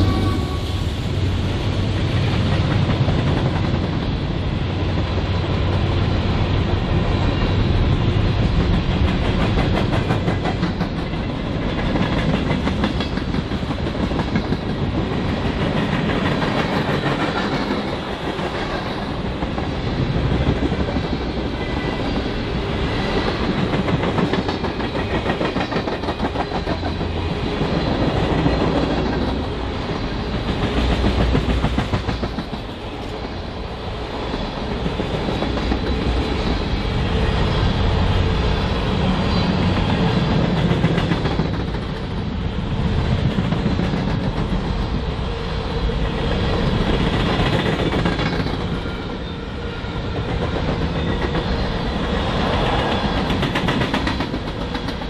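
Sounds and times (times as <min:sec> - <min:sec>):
train wheels clicking on rails: 0:00.0 - 0:55.0.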